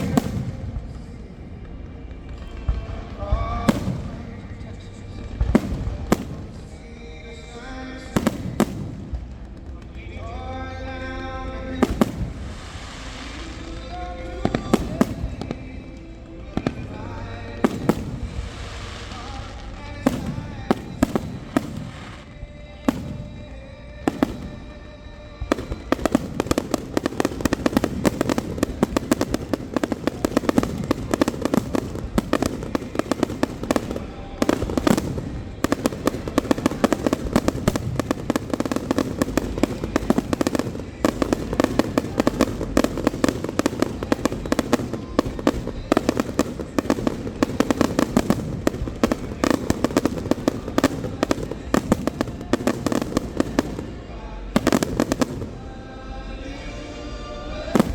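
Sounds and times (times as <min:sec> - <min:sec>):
fireworks crackling and banging: 0:00.0 - 0:57.9.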